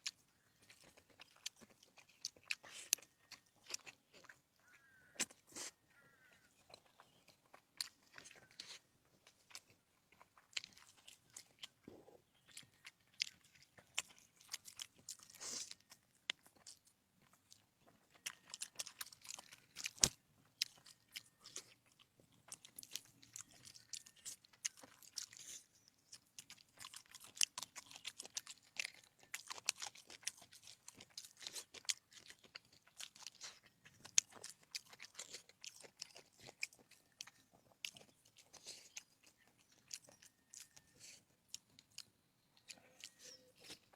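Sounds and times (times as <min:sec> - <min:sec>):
crunchy food chewing: 0:00.0 - 0:43.9.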